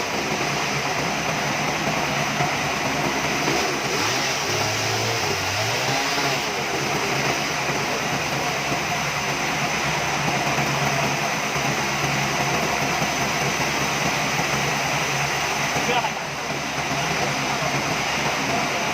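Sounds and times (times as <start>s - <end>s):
engine running: 0.0s - 18.9s
loud continuous hiss: 0.0s - 18.9s.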